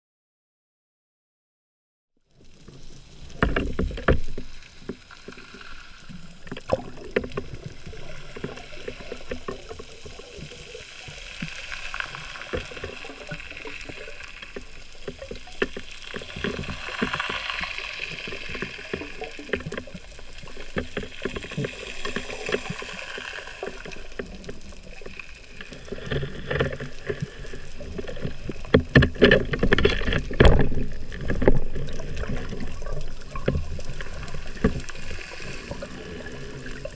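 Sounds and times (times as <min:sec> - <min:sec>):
muffled underwater noise: 0:02.4 - 0:36.9
underwater clicks and knocks: 0:02.5 - 0:36.9.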